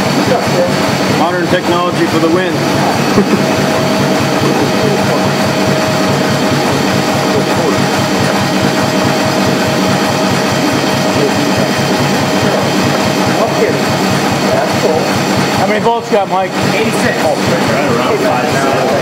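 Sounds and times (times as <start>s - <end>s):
generator running with low pulsing: 0.0s - 19.0s
thin steady whine: 0.0s - 19.0s.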